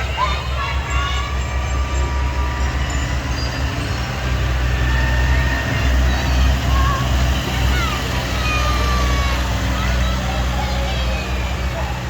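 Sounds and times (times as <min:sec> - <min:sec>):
tractor engines rumbling: 0:00.0 - 0:12.0.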